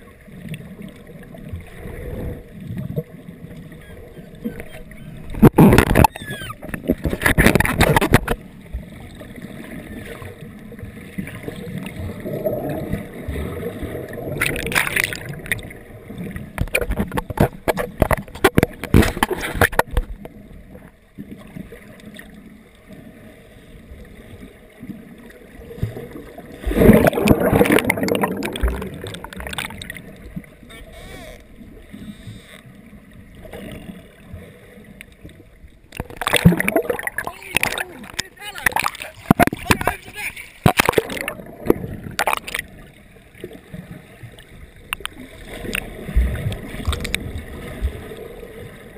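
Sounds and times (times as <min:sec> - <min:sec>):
muffled underwater wash: 0:00.0 - 0:48.9
water splashing: 0:00.0 - 0:48.9.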